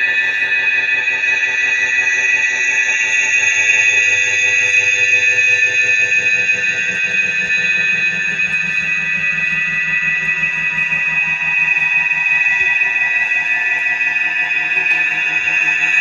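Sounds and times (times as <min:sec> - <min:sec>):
distorted electronic drone: 0:00.0 - 0:16.0.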